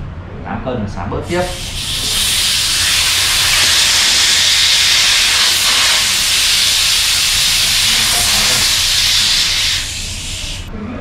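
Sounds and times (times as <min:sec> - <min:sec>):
compressed air hissing: 0:01.2 - 0:10.7.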